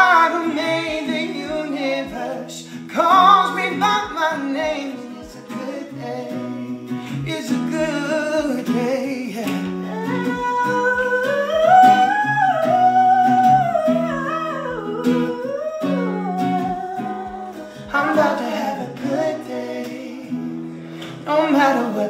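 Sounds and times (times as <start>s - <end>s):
electric guitar chords: 0.0s - 22.0s
wordless singing voice: 0.0s - 22.0s.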